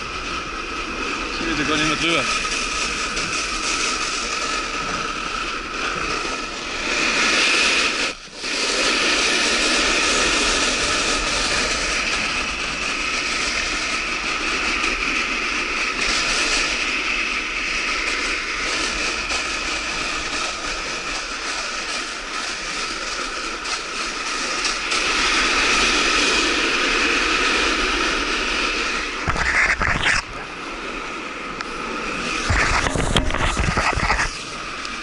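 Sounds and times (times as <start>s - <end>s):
scraping hiss on icy snow: 1.3s - 35.0s.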